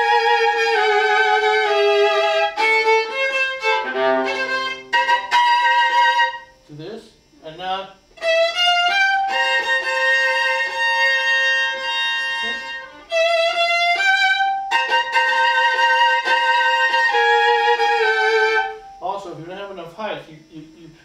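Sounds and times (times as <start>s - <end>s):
bowed viola melody: 0.0s - 6.6s, 8.2s - 19.0s.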